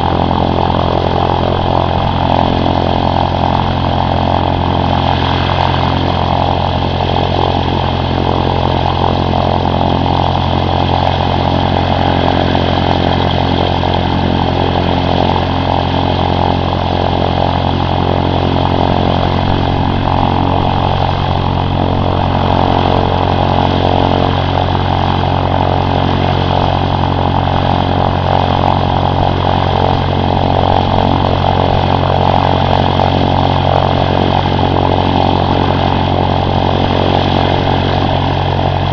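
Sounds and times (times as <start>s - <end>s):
propeller plane engine running: 0.0s - 38.9s.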